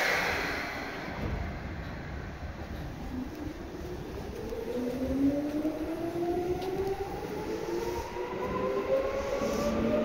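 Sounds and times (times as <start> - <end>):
wheels rumbling on rail: 0.0 - 10.0.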